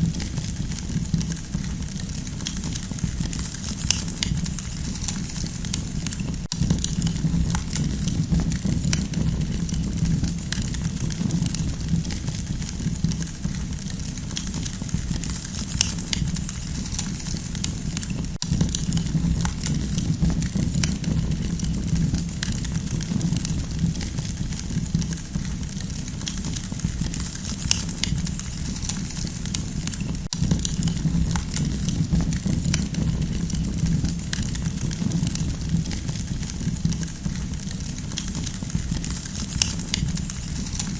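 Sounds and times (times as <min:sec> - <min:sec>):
campfire crackling: 0:00.0 - 0:40.9
low rumble: 0:00.0 - 0:40.9.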